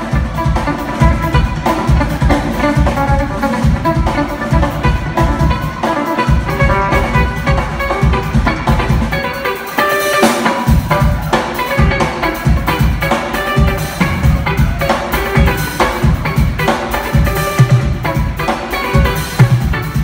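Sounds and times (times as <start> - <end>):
electric guitar: 0.0 - 20.0
jazz-fusion band playing live: 0.0 - 20.0.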